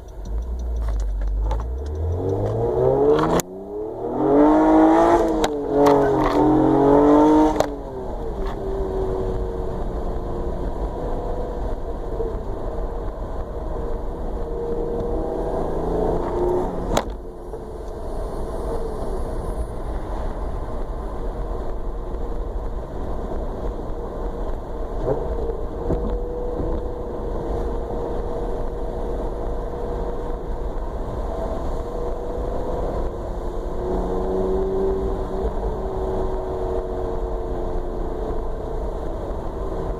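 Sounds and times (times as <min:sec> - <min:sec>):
motor vehicle rumbling: 0:00.0 - 0:39.9.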